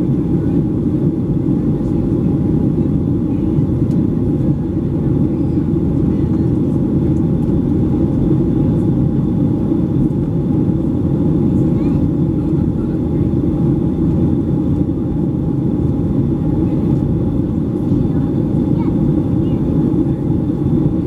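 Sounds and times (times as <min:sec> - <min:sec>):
airplane cabin roar: 0:00.0 - 0:21.0.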